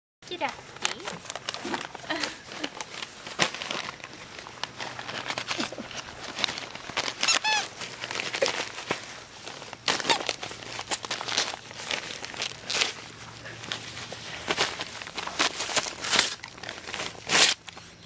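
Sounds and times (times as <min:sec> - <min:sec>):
paper crinkling and rustling: 0:00.3 - 0:18.0.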